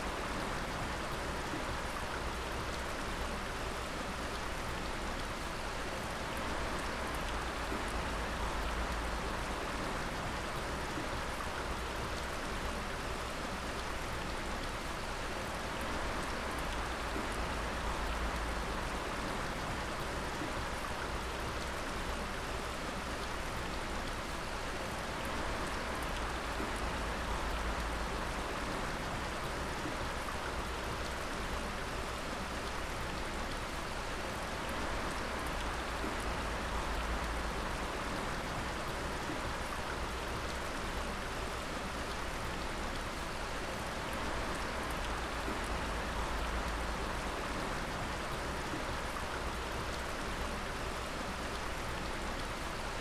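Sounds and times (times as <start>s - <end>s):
water dripping densely: 0.0s - 53.0s.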